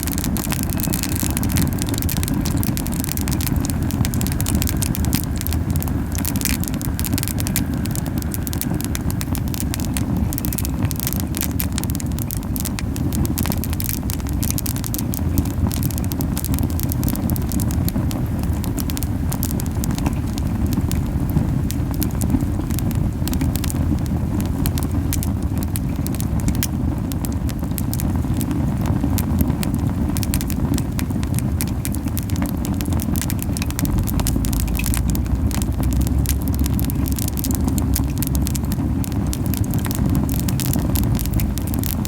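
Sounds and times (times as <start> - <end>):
campfire crackling and popping: 0.0 - 42.0
low rumble of flames: 0.0 - 42.0.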